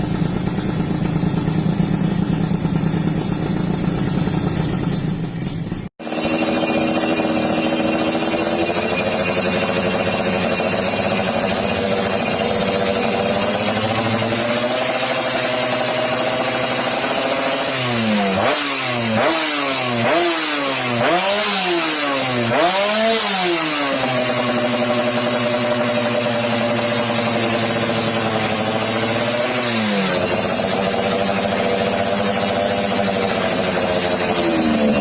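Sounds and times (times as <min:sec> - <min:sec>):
two-stroke motorcycle engine revving: 0:00.0 - 0:35.0.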